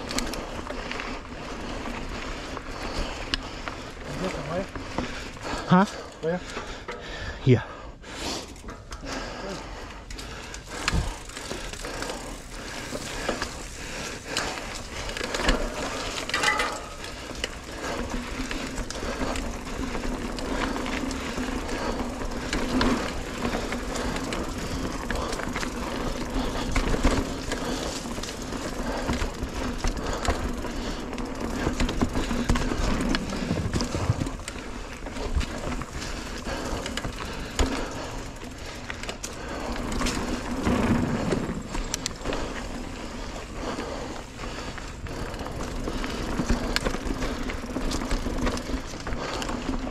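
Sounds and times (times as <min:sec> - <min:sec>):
bike knocking and rattling: 0:00.0 - 0:07.8, 0:08.4 - 0:49.9
bike tyres rolling over dirt: 0:00.0 - 0:49.9.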